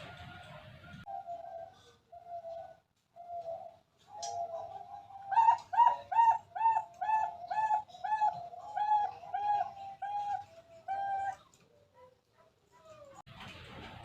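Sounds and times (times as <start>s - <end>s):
dove cooing: 0.0s - 12.2s.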